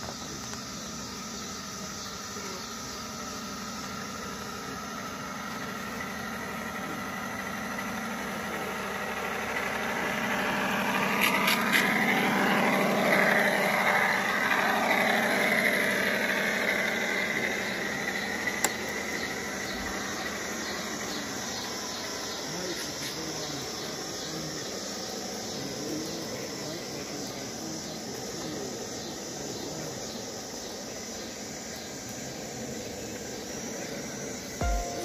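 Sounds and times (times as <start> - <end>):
model train running past: 0.9 - 35.0.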